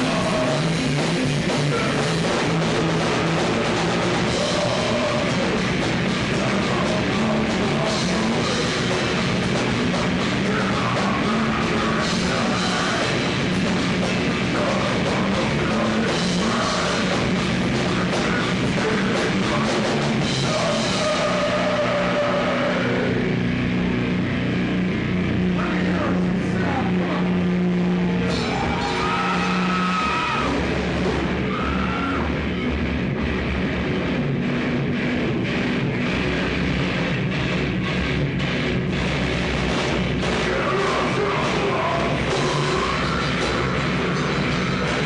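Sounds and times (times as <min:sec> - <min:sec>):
heavy metal band playing live: 0:00.0 - 0:45.0.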